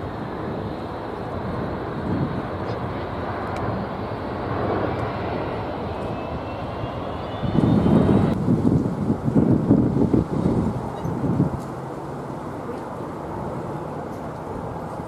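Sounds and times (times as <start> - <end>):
jet engines roaring: 0.0 - 15.0
wind gusts on microphone: 0.0 - 15.0.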